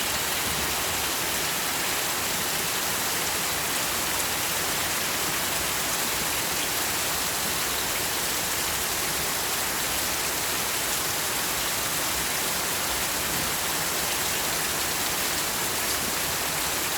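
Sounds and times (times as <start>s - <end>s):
heavy rain falling: 0.0s - 16.9s.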